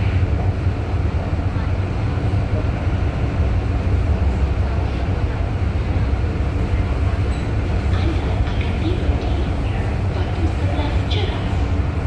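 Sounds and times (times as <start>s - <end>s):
train cabin rumble and hiss: 0.0s - 12.0s.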